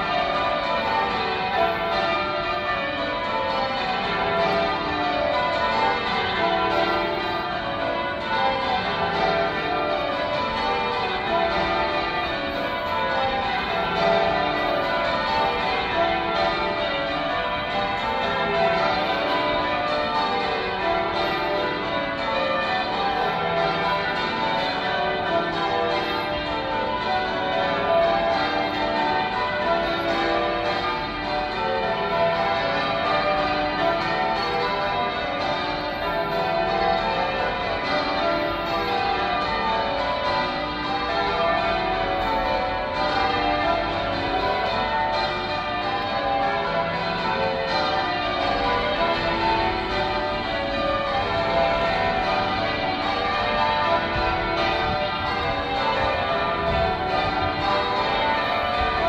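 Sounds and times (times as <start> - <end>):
church tower bells ringing: 0.0 - 59.0.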